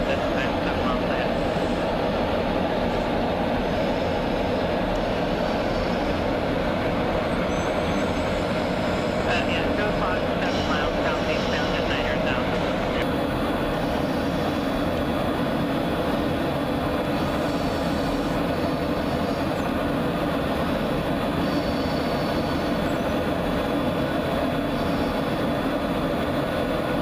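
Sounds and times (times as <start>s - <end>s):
jet engine and rushing air: 0.0s - 27.0s.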